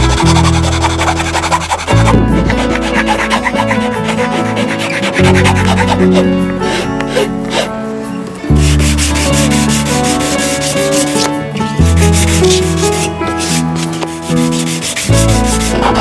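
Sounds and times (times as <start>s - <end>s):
cardboard rubbing on sandpaper: 0.0s - 7.7s, 8.6s - 16.0s
background music with bass notes: 0.0s - 16.0s.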